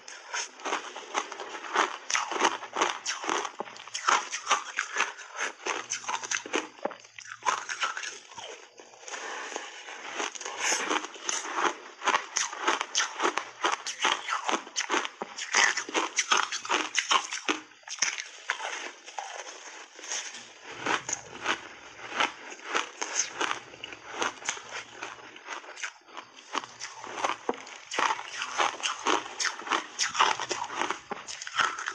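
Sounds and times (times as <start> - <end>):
crisp crunching of ice being chewed: 0.0 - 31.9.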